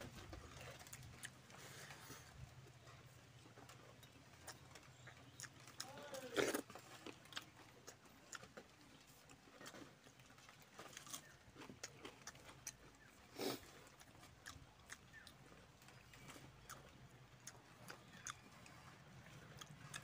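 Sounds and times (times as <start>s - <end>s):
chewing and lip-smacking: 0.0s - 20.0s.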